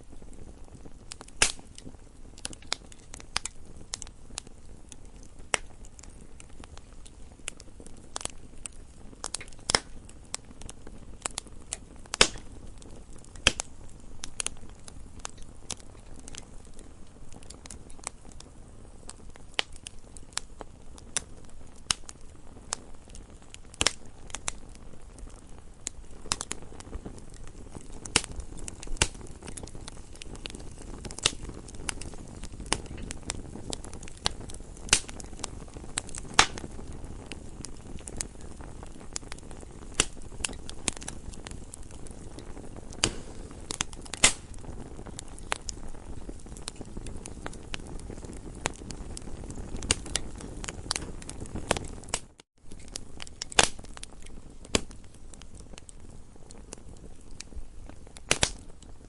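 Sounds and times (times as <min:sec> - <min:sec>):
burning wood popping and snapping: 0:00.0 - 0:59.0
low rush of flames: 0:00.0 - 0:59.0.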